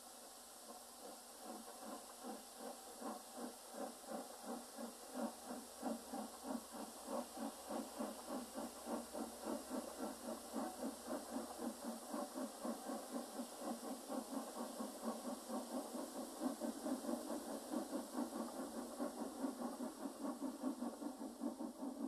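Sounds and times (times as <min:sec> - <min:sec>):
steady steam hiss: 0:00.0 - 0:22.0
steam locomotive chuffing: 0:00.1 - 0:22.0.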